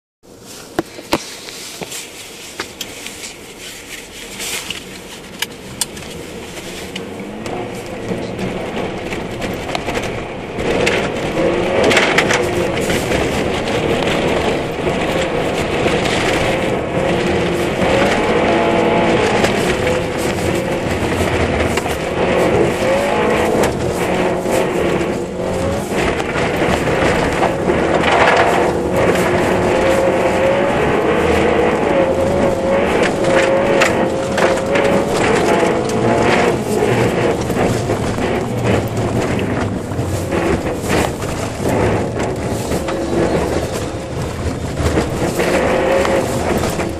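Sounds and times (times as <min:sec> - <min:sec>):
car engine revving: 0:03.1 - 0:46.9.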